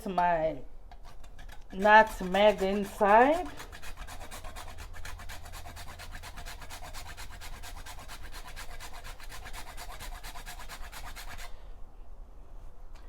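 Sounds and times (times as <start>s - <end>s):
nutmeg being grated: 0.9s - 11.5s.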